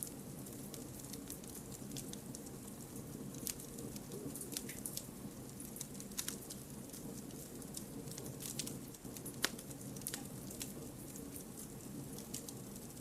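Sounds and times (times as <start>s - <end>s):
campfire crackling and popping: 0.0s - 13.0s
low rush of flames: 0.0s - 13.0s.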